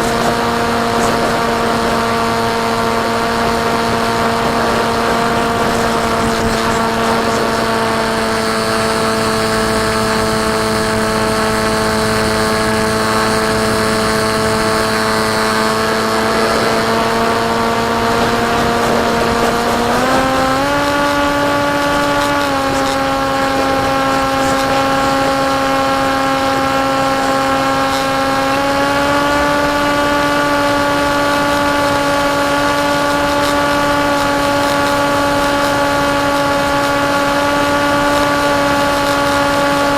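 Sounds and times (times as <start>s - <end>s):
electric motor and propeller whine: 0.0s - 39.9s
steady rush of noise: 0.0s - 39.9s.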